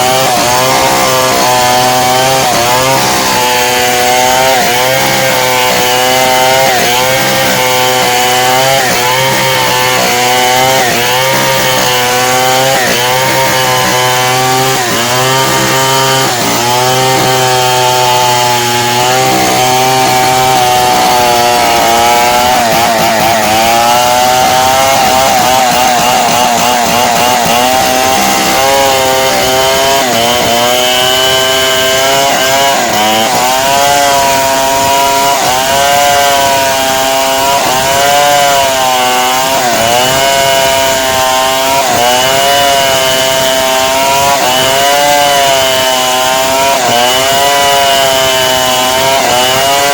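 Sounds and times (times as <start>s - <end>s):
chainsaw cutting timber: 0.0s - 49.9s.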